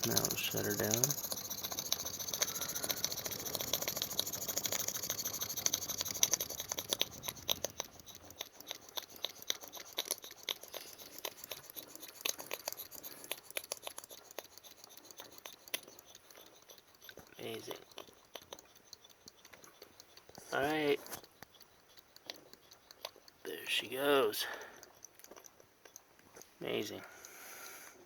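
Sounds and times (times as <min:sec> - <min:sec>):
model steam engine clicking: 0:00.0 - 0:25.2.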